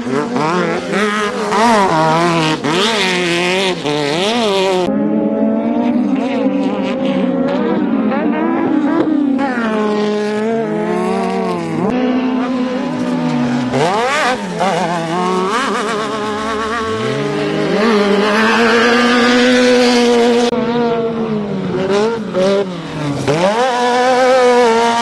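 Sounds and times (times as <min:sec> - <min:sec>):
buggy engines revving: 0:00.0 - 0:25.0.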